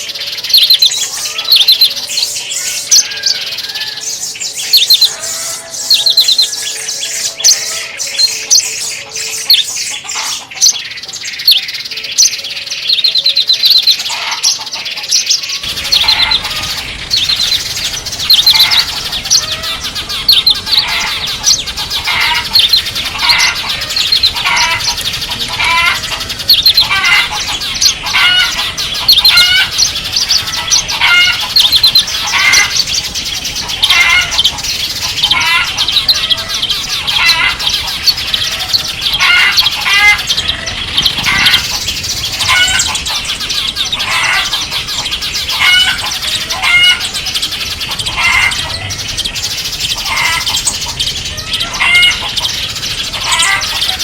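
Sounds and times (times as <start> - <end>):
repeated bird call phrases: 0.0 - 54.0
small songbirds chirping: 0.0 - 54.0.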